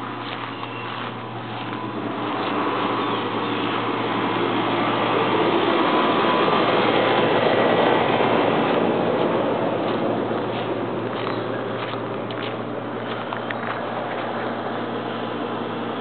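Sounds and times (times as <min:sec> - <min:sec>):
vehicle passing rush: 0:00.0 - 0:16.0.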